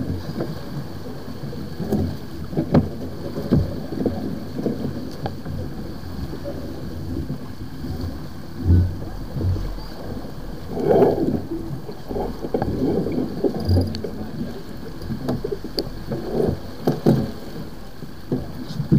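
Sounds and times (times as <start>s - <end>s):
water rushing along hull: 0.0s - 18.9s
wind buffeting microphone: 1.7s - 18.9s.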